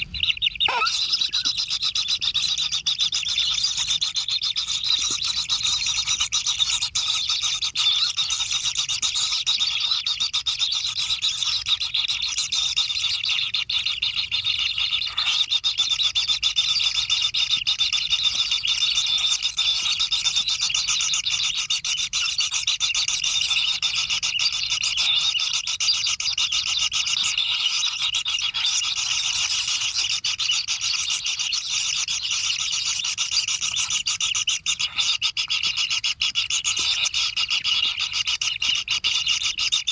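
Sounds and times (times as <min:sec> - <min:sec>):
nestlings churring: 0:00.0 - 0:39.9.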